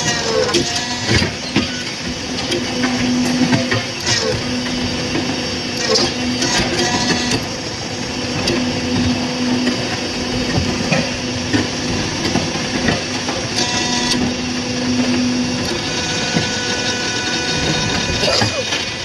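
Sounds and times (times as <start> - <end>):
brick-making machine motor hum: 0.0 - 19.0.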